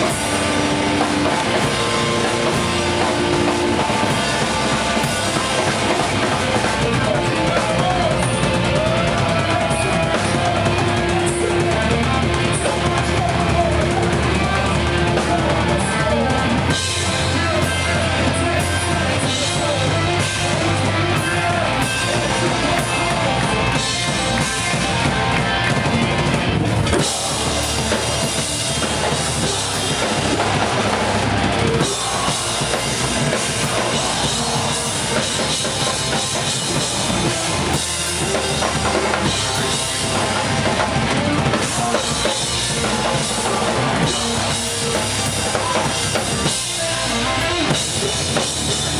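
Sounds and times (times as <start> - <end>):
metal band playing live: 0.0 - 48.9.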